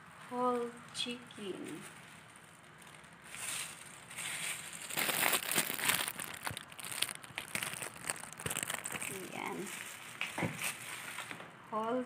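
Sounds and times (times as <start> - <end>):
plastic crinkling: 1.6 - 11.4.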